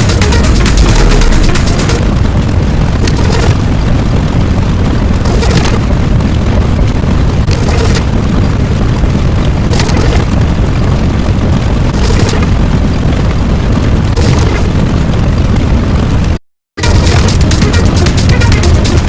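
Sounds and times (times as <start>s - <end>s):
crackling bursts: 0.0s - 19.0s
rumbling boom: 0.0s - 19.0s.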